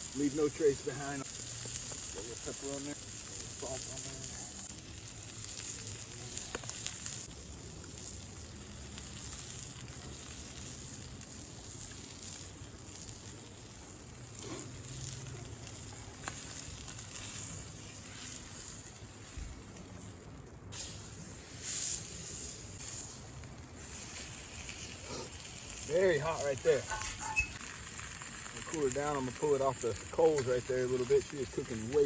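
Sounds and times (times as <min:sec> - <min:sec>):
steak sizzling in hot pan: 0:00.0 - 0:32.0.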